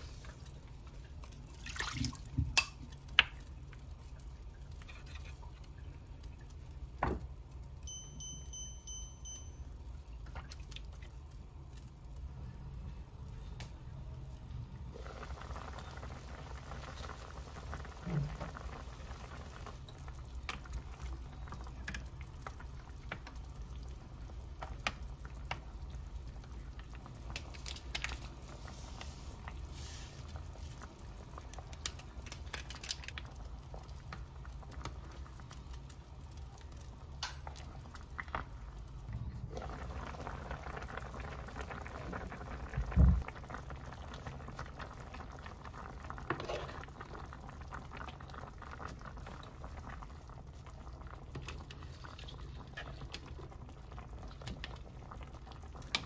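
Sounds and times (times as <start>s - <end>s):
food bubbling in a pot: 0.0s - 56.0s.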